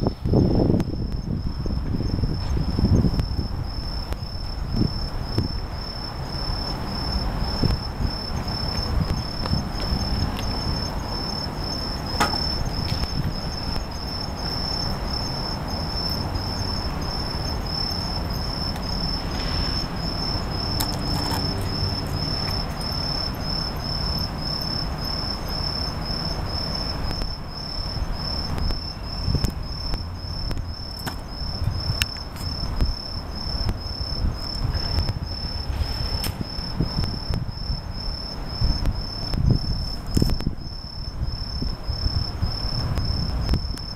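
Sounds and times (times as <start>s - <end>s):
crickets trilling: 0.0s - 43.9s
steady low rumble: 0.0s - 43.9s.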